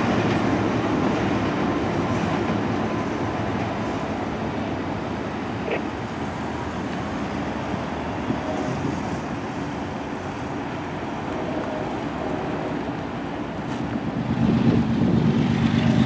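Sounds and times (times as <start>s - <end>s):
railcar wheels rumbling on rail: 0.0s - 16.0s.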